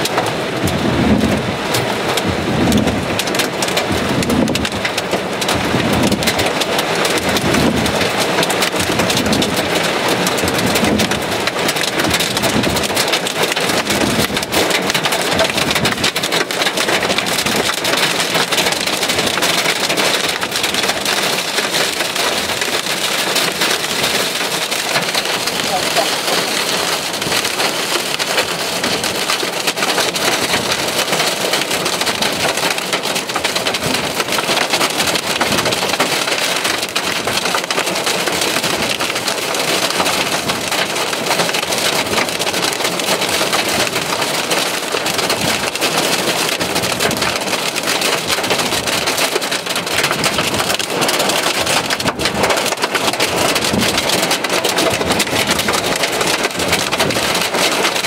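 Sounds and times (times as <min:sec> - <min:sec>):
rain and hail on car roof: 0:00.0 - 0:58.0.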